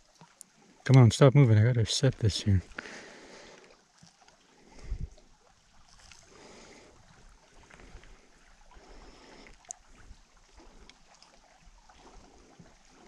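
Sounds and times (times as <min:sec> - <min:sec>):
water lapping against canoe hull: 0:00.0 - 0:13.0.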